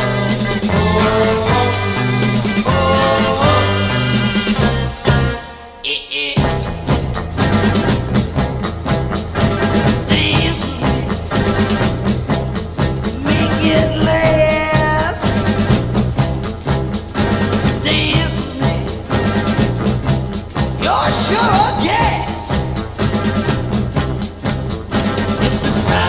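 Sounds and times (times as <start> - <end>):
tambourine beat: 0.0 - 5.6, 6.4 - 26.0
garage rock band playing: 0.0 - 5.8, 6.4 - 26.0.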